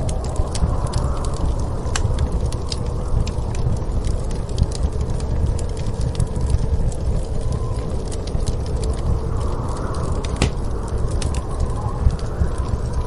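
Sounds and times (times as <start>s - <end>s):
snowstorm wind rumbling: 0.0s - 13.0s
wood fire crackling: 0.0s - 13.0s.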